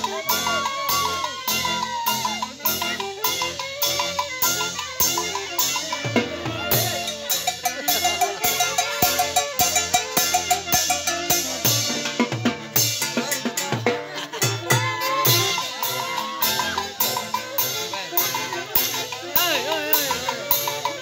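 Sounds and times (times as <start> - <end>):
drum kit beat: 0.0 - 21.0
melody with quick repeated notes: 0.0 - 21.0.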